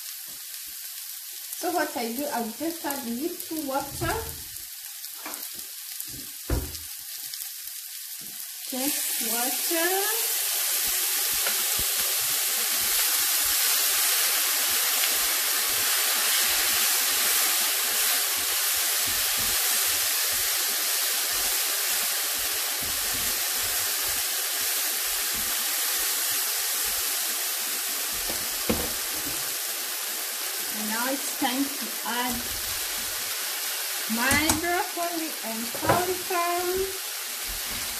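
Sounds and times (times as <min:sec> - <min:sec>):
water sizzling in hot pan: 0:00.0 - 0:37.9.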